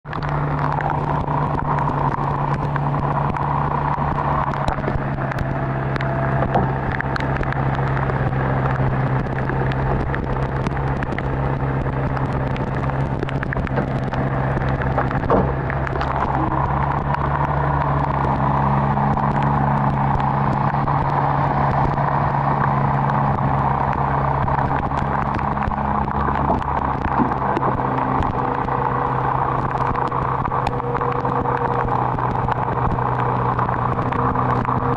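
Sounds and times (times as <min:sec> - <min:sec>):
truck engine idling: 0:00.3 - 0:34.9.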